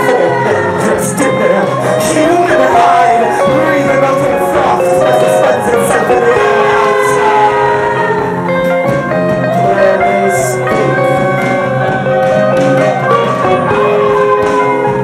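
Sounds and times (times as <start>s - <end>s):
strummed guitar: 0.0s - 15.0s
voices singing together: 0.0s - 15.0s.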